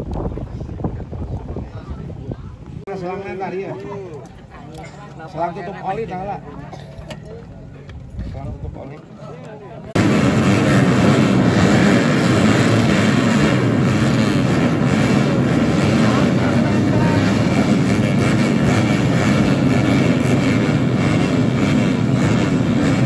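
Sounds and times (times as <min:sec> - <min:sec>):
dirt bike engines revving: 0:02.6 - 0:23.0.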